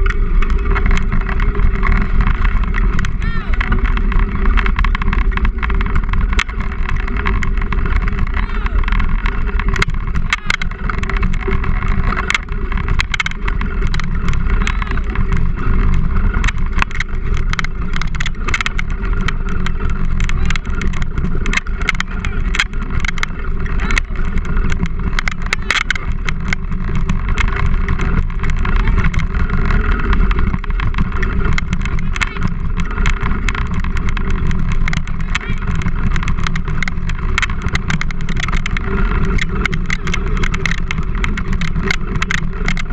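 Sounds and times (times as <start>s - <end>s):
wheels rumbling on dirt trail: 0.0s - 42.9s
wind on camera: 0.0s - 42.9s
frame and camera mount rattling: 4.4s - 42.9s.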